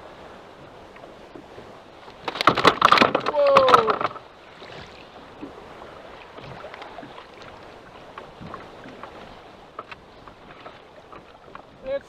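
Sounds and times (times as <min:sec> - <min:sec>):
water lapping against boat hull: 0:00.0 - 0:12.0
wind on microphone: 0:00.0 - 0:12.0
small splashes: 0:00.9 - 0:11.9.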